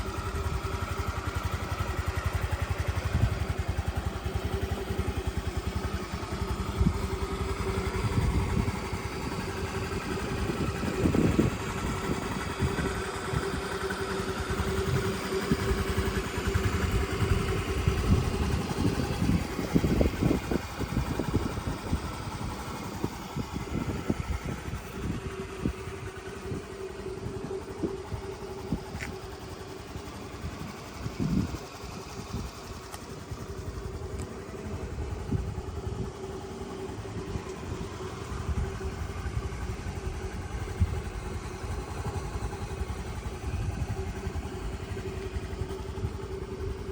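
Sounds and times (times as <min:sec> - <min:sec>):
scooter engine idling: 0:00.0 - 0:46.9.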